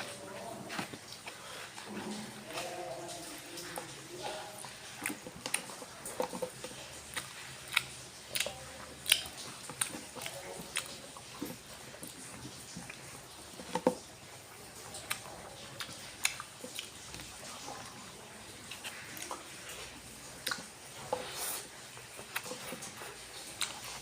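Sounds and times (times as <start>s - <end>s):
chewing and wet mouth smacks: 0.0s - 24.0s.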